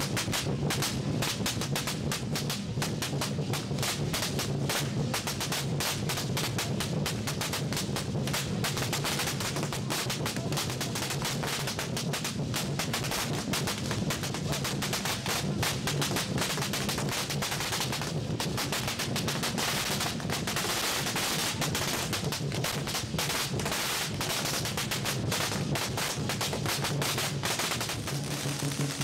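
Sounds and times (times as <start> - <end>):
firecrackers crackling: 0.0 - 29.0
lion-dance drumming: 0.0 - 29.0.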